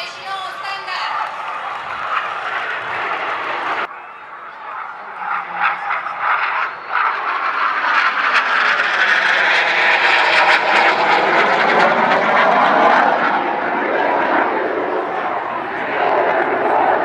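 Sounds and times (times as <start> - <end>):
jet aircraft rushing noise: 0.6 - 17.0.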